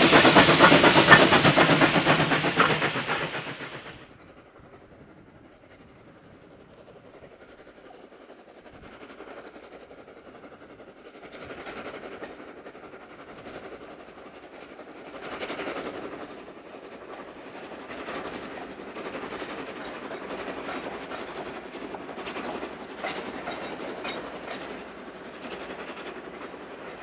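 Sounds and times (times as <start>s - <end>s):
steam locomotive running: 0.0s - 27.0s.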